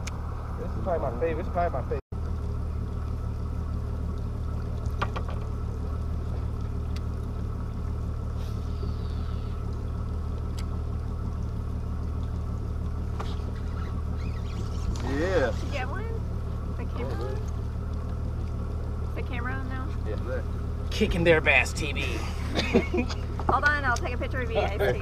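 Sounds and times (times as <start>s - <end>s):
boat motor humming: 0.0s - 25.0s.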